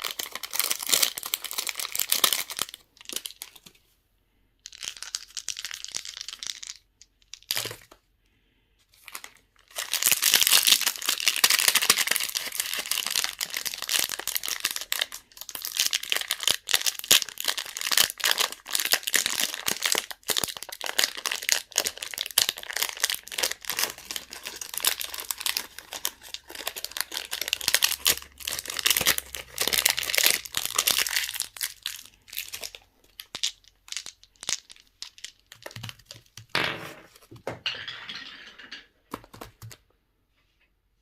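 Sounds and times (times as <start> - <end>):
candy wrappers crinkling: 0.0 - 3.8, 4.7 - 8.0, 9.0 - 36.5.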